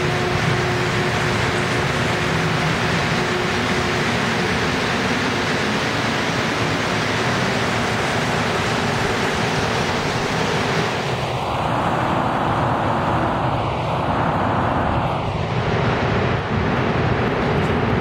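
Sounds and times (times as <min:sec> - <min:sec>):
subway train passing: 0:00.0 - 0:18.0.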